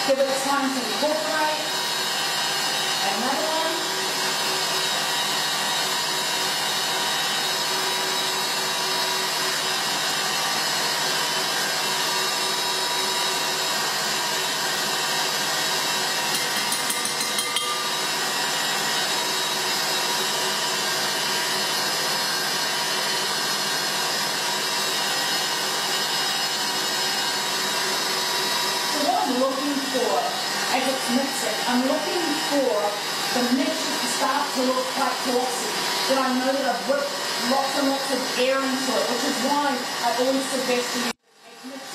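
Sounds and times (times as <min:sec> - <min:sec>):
stand mixer whisking: 0:00.0 - 0:41.9.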